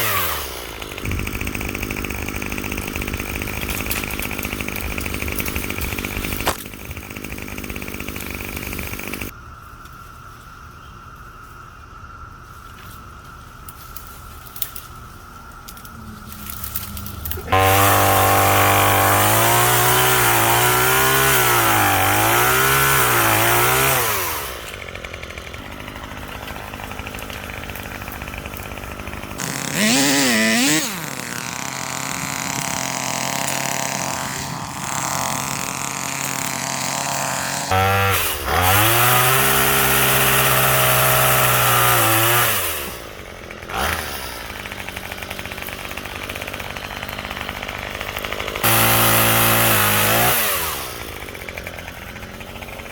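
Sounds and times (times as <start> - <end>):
chainsaw revving: 0.0 - 9.4, 15.6 - 52.9.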